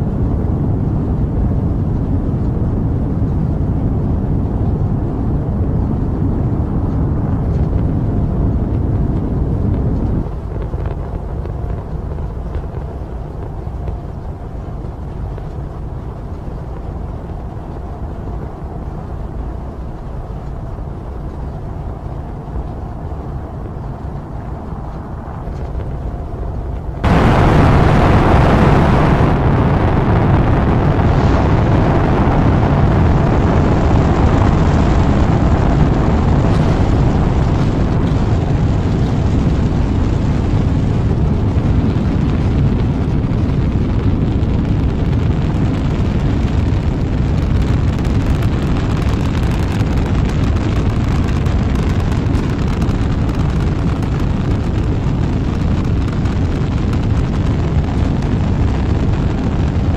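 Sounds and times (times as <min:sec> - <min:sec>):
rocket engines rumbling: 0:00.0 - 0:59.9.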